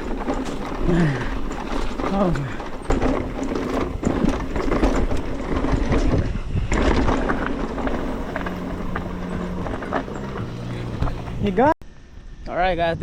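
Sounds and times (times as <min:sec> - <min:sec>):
tyre rumble: 0:00.0 - 0:11.7
bike rattling and clattering: 0:00.0 - 0:11.8
wind buffeting microphone: 0:00.0 - 0:13.0.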